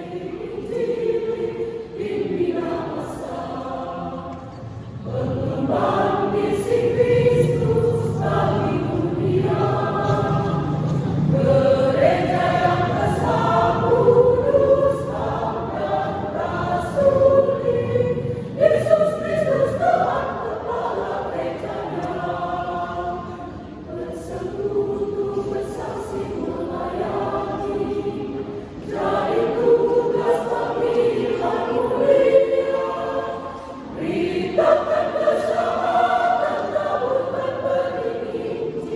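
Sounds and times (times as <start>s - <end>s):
choir singing in parts: 0.0s - 38.9s.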